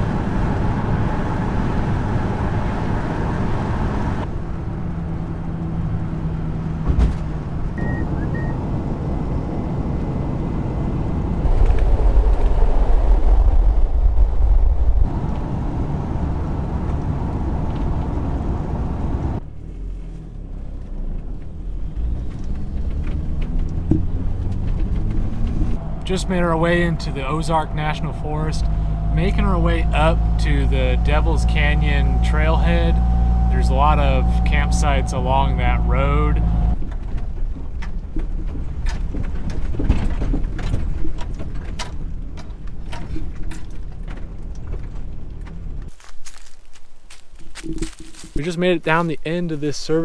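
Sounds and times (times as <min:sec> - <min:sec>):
diesel engine and road noise: 0:00.0 - 0:50.0.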